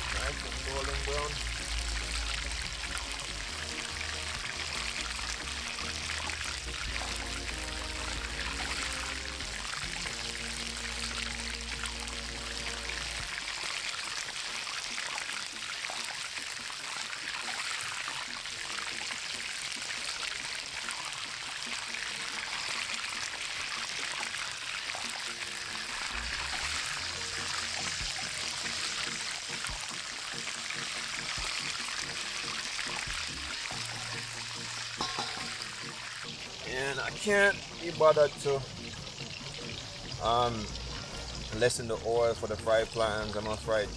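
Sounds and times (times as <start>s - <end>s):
hot oil sizzling in skillet: 0.0s - 43.9s.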